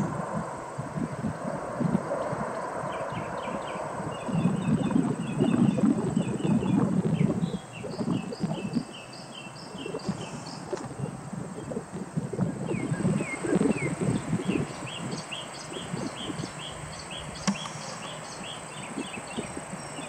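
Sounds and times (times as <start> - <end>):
low gusting rumble: 0.0 - 20.0
songbird chirping: 2.6 - 11.8, 12.4 - 20.0.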